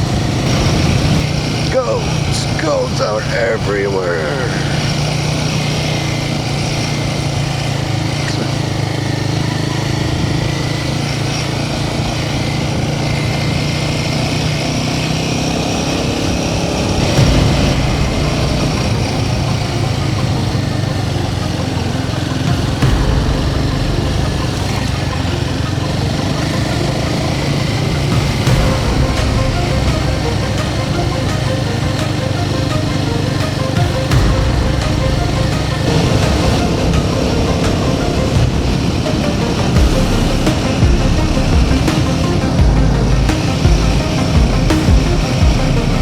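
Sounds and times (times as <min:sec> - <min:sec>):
motorcycle engine running: 0:00.0 - 0:46.0
wind and tyre noise: 0:00.0 - 0:46.0.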